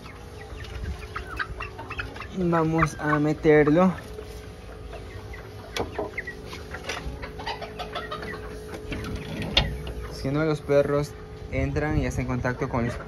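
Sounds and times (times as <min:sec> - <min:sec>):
chicks peeping and chirping: 0:00.0 - 0:13.0.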